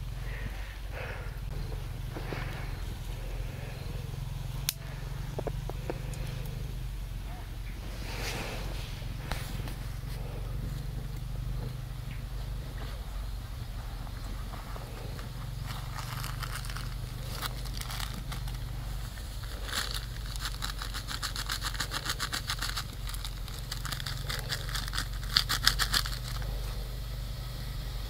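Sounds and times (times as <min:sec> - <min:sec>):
steady low hum: 0:00.0 - 0:28.0
twig fire crackling: 0:00.2 - 0:06.7, 0:07.7 - 0:28.0.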